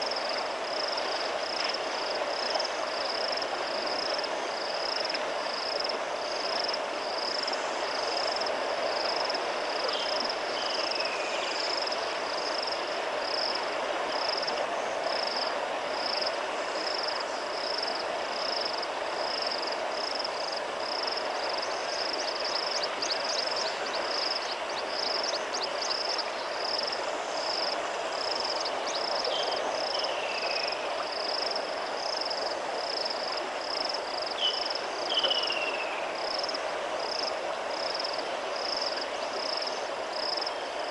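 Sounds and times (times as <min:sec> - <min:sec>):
insect or frog chirping: 0:00.0 - 0:40.9
river water flowing: 0:00.0 - 0:40.9.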